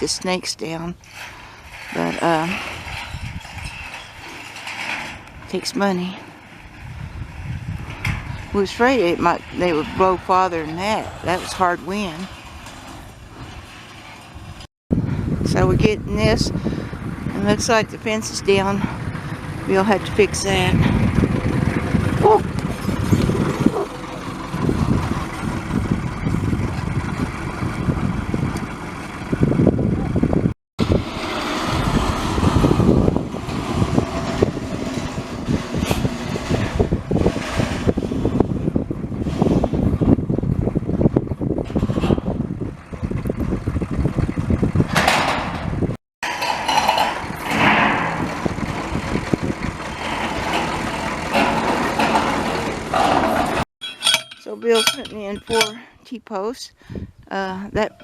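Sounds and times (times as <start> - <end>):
strong gusting wind on microphone: 1.6 - 4.0, 6.4 - 46.0, 46.7 - 53.7, 56.8 - 58.0.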